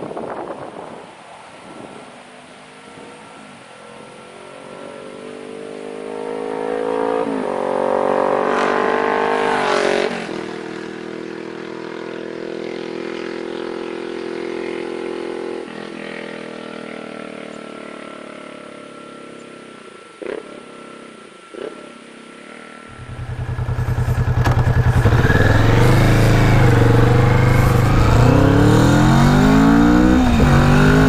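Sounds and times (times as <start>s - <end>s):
motorcycle accelerating past: 4.6s - 18.8s, 20.2s - 31.0s.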